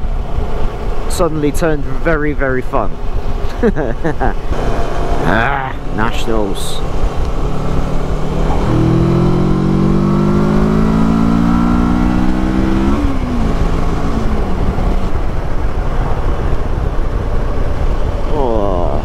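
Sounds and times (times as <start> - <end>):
motorcycle engine accelerating: 3.2 - 18.9.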